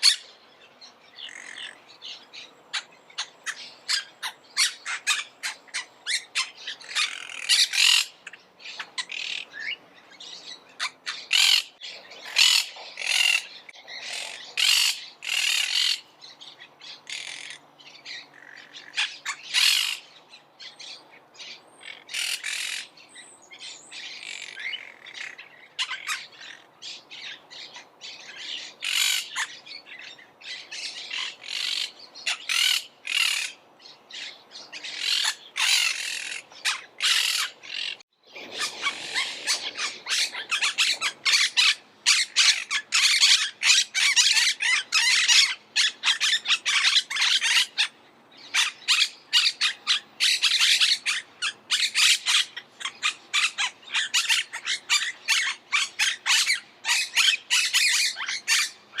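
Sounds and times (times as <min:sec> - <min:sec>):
parakeets squawking: 0:00.0 - 0:00.3, 0:02.4 - 0:16.1, 0:16.8 - 0:20.1, 0:21.8 - 0:22.9, 0:24.0 - 0:59.0.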